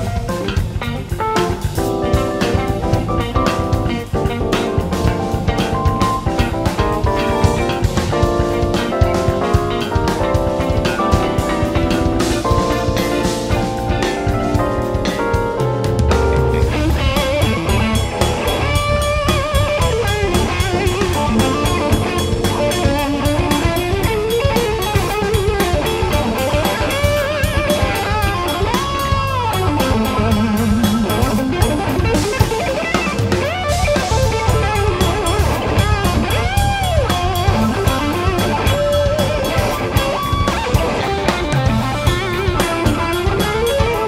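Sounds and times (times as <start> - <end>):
bass guitar: 0.0 - 44.0
drum kit: 0.0 - 44.0
electric guitar lead melody: 0.0 - 44.0.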